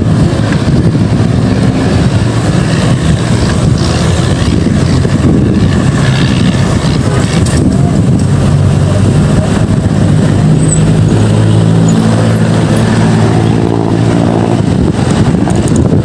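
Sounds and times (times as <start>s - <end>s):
road traffic noise: 0.0s - 16.0s
vehicle engine humming: 0.0s - 16.0s.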